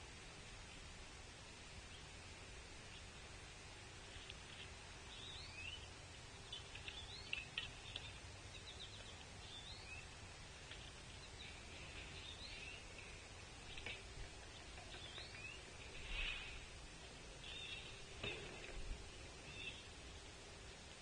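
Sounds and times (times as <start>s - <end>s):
faint outdoor background: 0.0s - 21.0s
small birds chirping: 1.7s - 21.0s.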